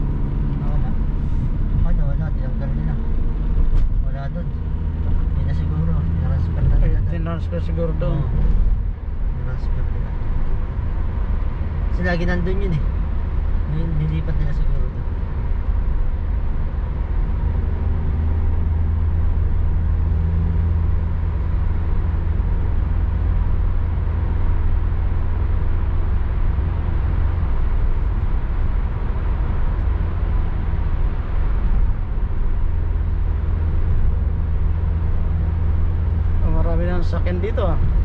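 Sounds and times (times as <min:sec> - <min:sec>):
car cabin road rumble: 0:00.0 - 0:38.0.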